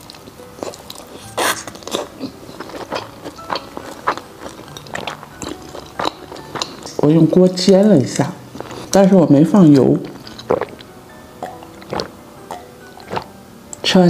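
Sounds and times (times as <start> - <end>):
biting and chewing dumpling: 0.0 - 7.5, 8.4 - 13.3.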